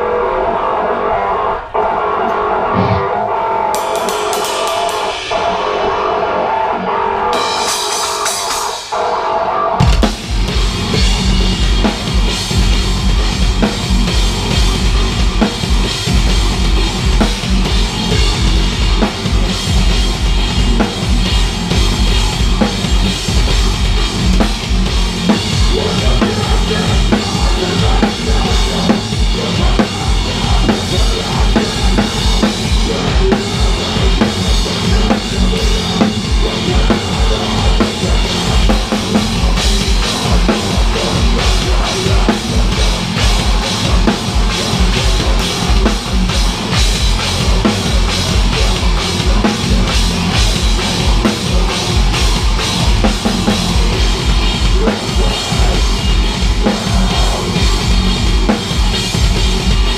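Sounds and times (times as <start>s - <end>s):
electric guitar: 0.0s - 59.9s
heavy metal band playing: 0.0s - 59.9s
rapid bass drum strokes: 9.8s - 59.9s.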